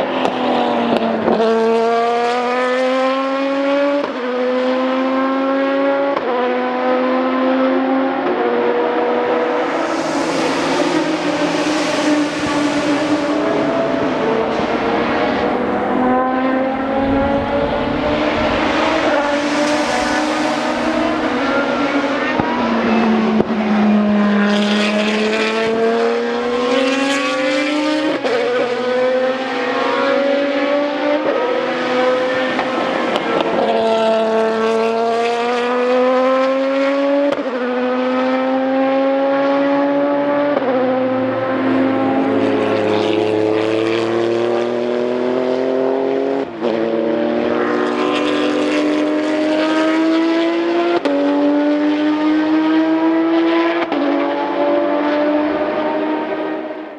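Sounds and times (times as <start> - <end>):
cars passing: 0.0 - 56.9
racing car engines revving: 0.0 - 56.9.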